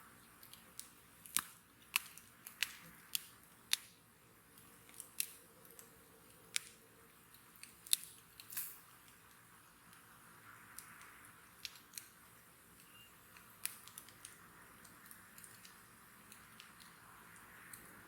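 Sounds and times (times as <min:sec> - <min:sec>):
wood crackling and popping: 0:00.2 - 0:18.0.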